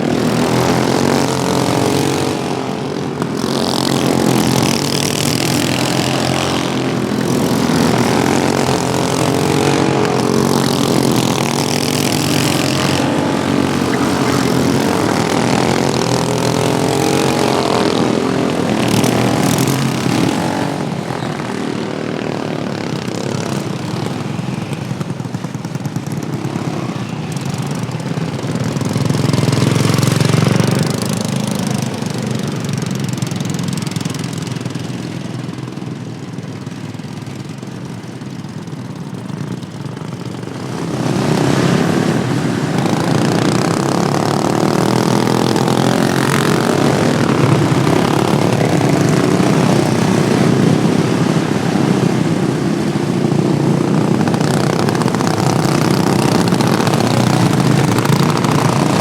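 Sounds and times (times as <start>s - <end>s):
lawn tractor engines racing: 0.0s - 59.0s.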